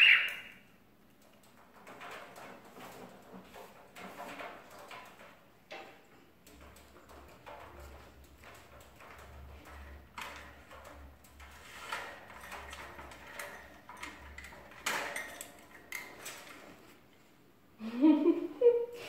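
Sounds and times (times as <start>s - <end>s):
bird rattling cage bars: 1.1s - 16.9s.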